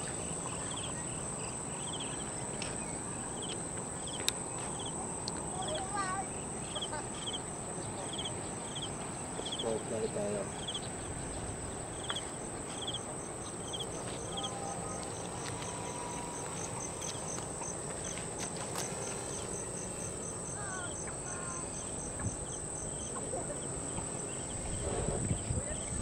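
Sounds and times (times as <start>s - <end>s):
insect chirping: 0.0s - 26.0s
insects shrilling: 0.0s - 26.0s.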